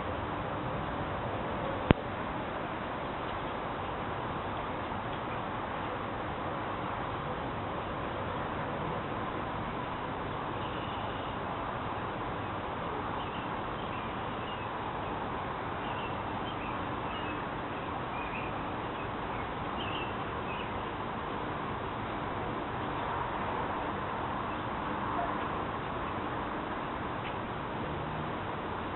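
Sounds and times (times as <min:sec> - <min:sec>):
steady background hiss: 0:00.0 - 0:28.9.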